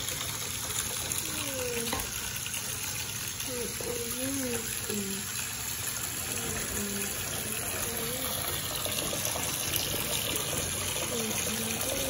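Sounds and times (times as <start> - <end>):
tap water pouring into bathtub: 0.0 - 12.0.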